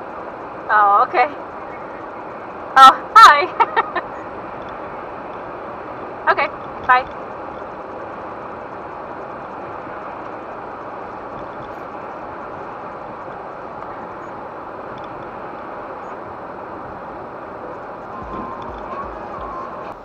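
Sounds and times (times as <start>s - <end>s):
car engine hum: 0.0s - 20.0s
road and tyre noise: 0.0s - 20.0s.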